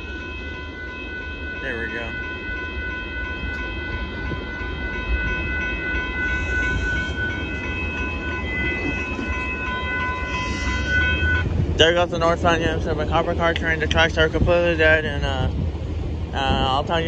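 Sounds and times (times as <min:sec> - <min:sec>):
high-pitched ringing tone: 0:00.0 - 0:14.2
freight train rumbling past: 0:00.0 - 0:17.0.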